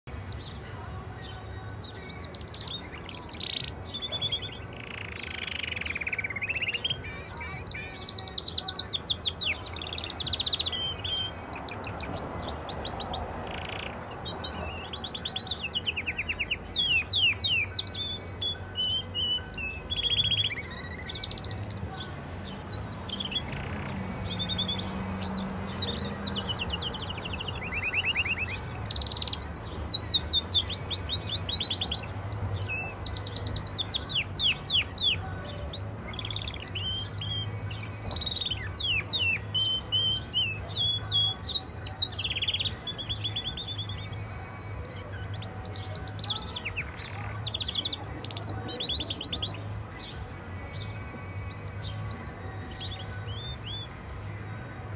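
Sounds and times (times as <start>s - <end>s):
canary singing trills: 0.1s - 54.9s.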